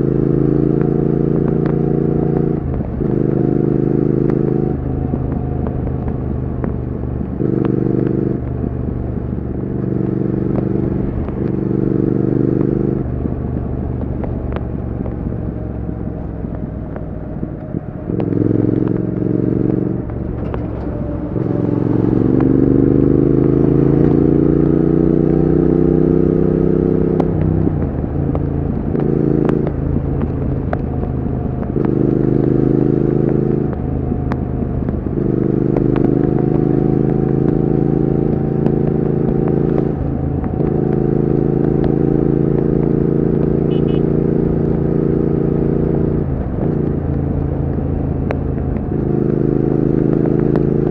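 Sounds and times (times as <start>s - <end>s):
motorcycle engine and exhaust: 0.0s - 50.9s.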